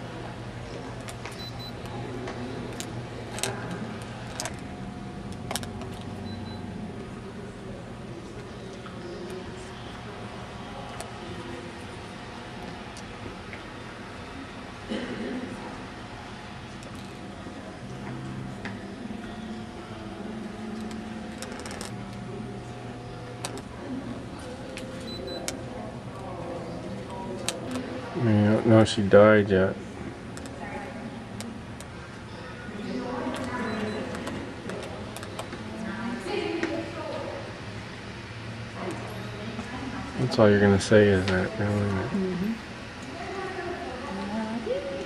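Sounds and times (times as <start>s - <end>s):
murmur of voices: 0.0s - 45.0s
steady low hum: 0.0s - 45.0s.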